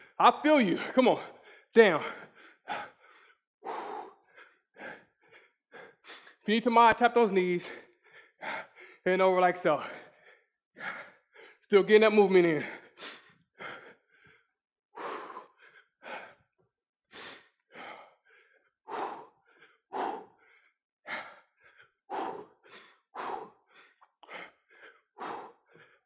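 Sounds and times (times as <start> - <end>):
man breathing hard: 0.0 - 6.4, 7.6 - 11.7, 12.5 - 26.0.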